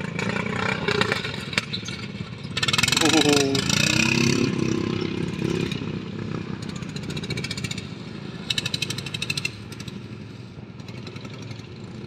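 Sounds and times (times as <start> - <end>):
small petrol engines running: 0.0 - 12.0.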